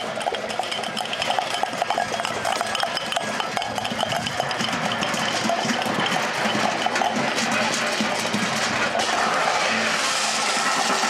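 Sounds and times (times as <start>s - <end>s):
clatter of small clicks and rattles: 0.0s - 9.0s
steady noisy bed: 0.0s - 11.0s.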